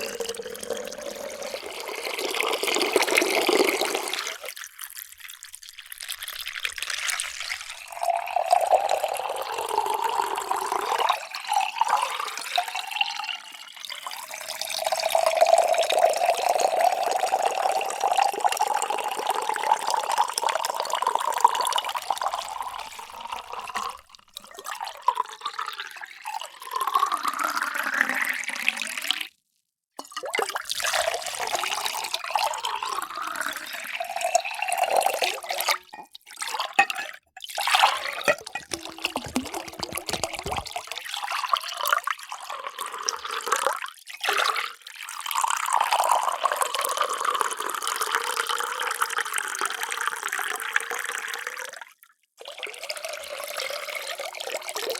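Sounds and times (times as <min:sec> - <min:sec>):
water pouring into vessels: 0:00.0 - 0:29.4, 0:30.0 - 0:54.9.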